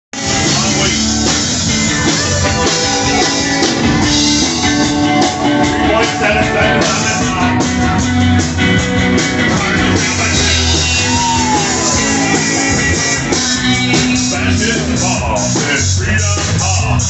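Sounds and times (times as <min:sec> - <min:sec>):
drum kit: 0:00.1 - 0:17.0
electric guitar: 0:00.1 - 0:17.0
live rock band playing: 0:00.1 - 0:17.0.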